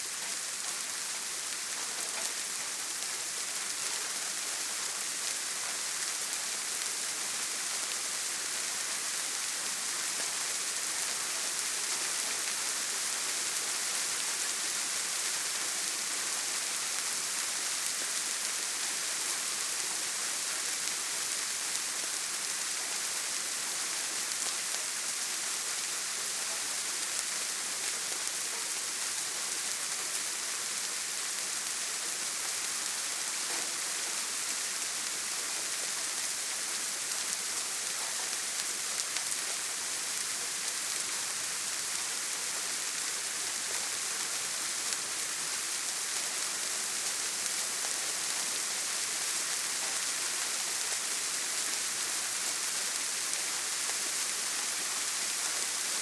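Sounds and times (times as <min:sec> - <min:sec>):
rain drumming on a tin roof: 0:00.0 - 0:56.0.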